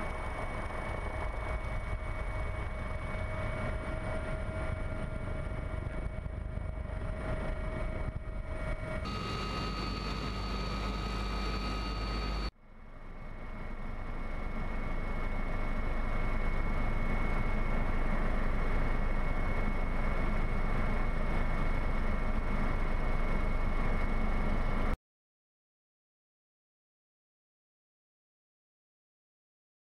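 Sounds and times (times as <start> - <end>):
helicopter rumble with whine: 0.0 - 25.0.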